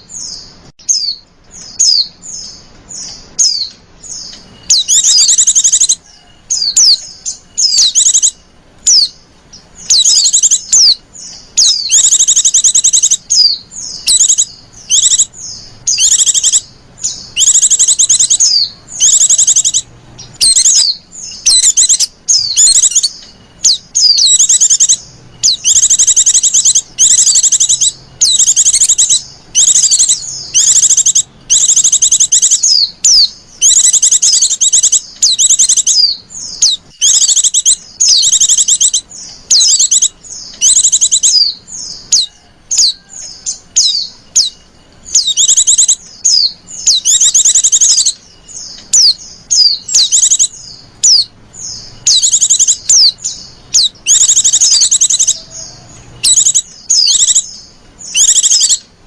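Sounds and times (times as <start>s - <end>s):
bird calling in fast trills: 0.0s - 59.0s.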